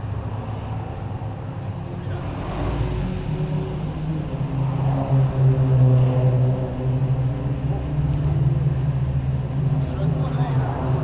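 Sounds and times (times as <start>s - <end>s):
engine with open exhaust running: 0.0s - 11.0s.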